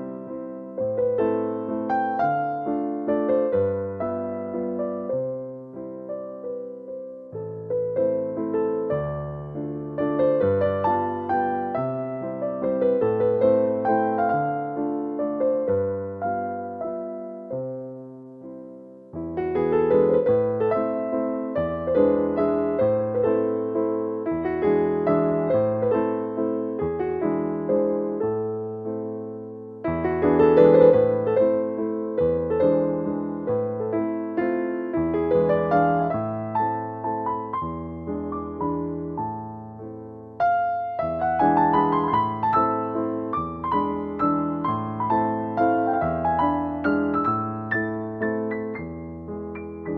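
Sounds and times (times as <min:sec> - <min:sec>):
gentle piano melody: 0:00.0 - 0:49.9.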